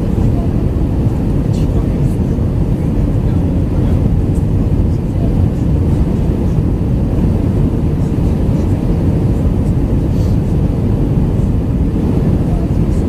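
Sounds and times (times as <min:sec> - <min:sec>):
airplane cabin engine roar: 0:00.0 - 0:13.0
faint steady hum: 0:00.0 - 0:13.0.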